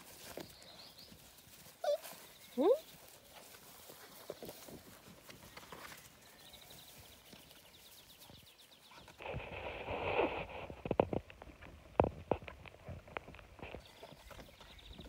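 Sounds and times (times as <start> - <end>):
rustling in grass: 0.0 - 14.9
paws scrabbling on plastic: 0.0 - 15.0.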